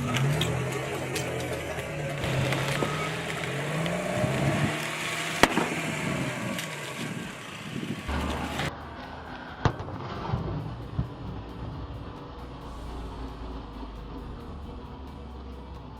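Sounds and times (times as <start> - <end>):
car running slowly: 0.0 - 15.9
sharp crack: 0.0 - 15.9.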